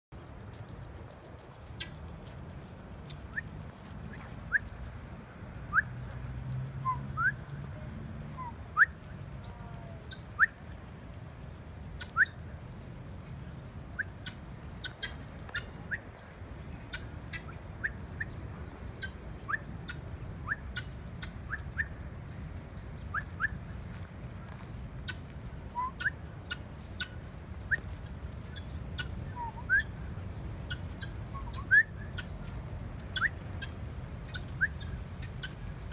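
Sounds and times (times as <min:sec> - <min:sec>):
steady low rumble: 0:00.1 - 0:35.9
guineafowl chirping: 0:01.3 - 0:06.2, 0:06.8 - 0:35.9.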